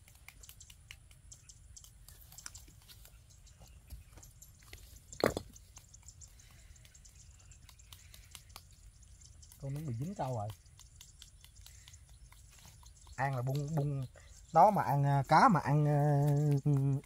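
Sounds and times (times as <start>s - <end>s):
faint chewing: 0.0s - 17.0s
hands picking at food clicks: 0.0s - 17.0s.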